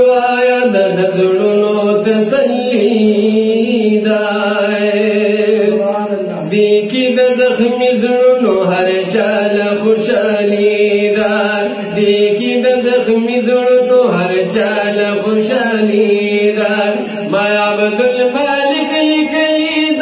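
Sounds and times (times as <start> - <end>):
men chanting a hymn: 0.0 - 20.0.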